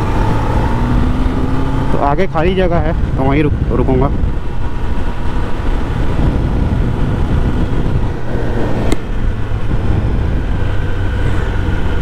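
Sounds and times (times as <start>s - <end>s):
motorcycle engine at low revs: 0.0s - 12.0s
wind rumble on microphone: 0.0s - 12.0s.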